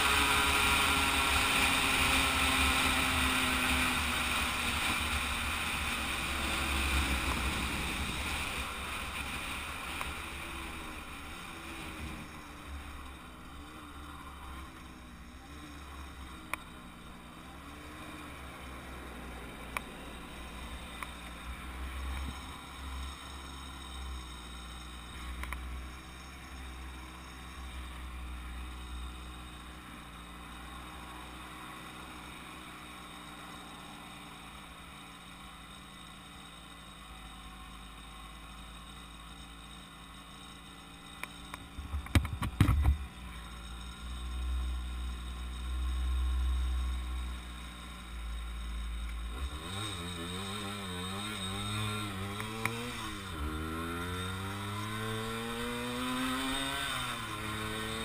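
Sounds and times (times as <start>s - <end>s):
moped engine droning: 0.0s - 58.0s.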